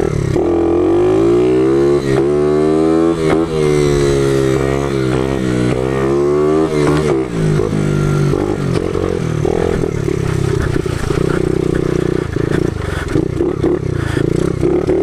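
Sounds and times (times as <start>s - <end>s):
small motorbike engine revving: 0.0s - 15.0s.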